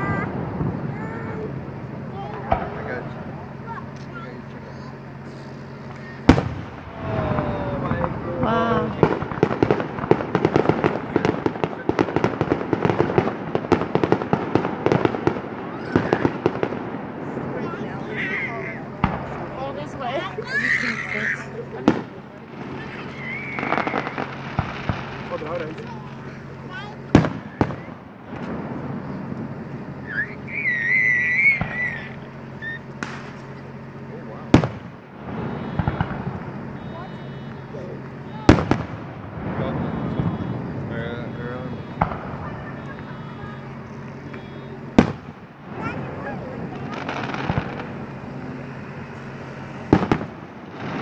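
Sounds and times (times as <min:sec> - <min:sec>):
fireworks popping and crackling: 0:00.0 - 0:51.0.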